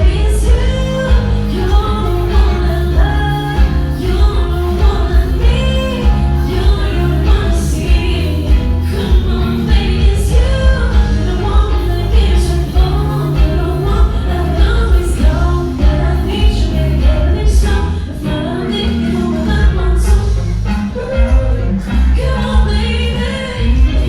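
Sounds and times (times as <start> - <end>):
heavy bass: 0.0 - 24.0
live band playing: 0.0 - 24.0
person singing: 0.0 - 24.0.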